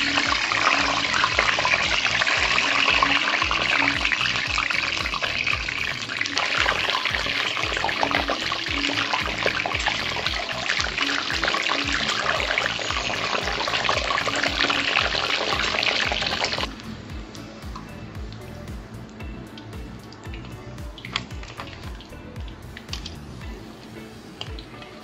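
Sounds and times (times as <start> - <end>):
background music with steady beat: 0.0 - 25.0
eggs frying in sizzling oil: 0.0 - 25.0.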